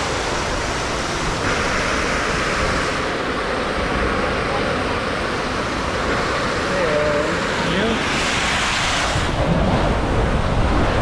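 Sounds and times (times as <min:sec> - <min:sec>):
water rushing through slide: 0:00.0 - 0:11.0.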